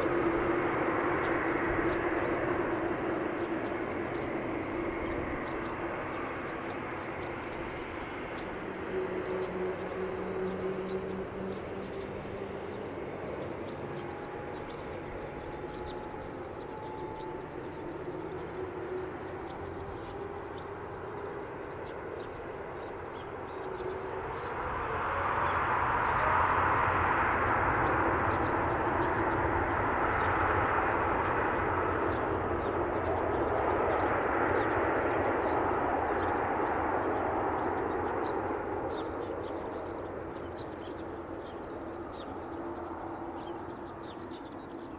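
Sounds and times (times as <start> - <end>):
jet engines droning: 0.0 - 44.9.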